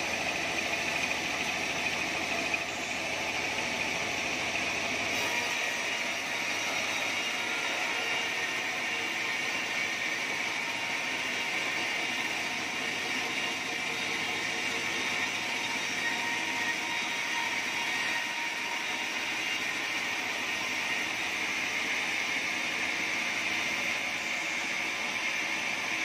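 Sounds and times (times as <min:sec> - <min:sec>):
band saw cutting log: 0:00.0 - 0:26.0.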